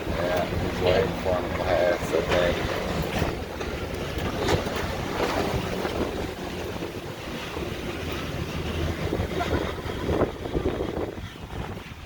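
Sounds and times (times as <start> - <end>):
boat engine running: 0.0 - 12.0
water rushing along hull: 0.0 - 12.0
wind buffeting microphone: 0.0 - 12.0.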